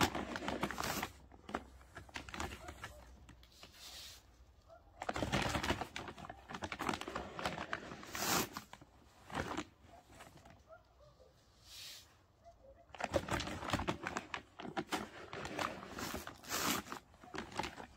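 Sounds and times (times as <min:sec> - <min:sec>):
rustling and crinkling: 0:00.0 - 0:17.9.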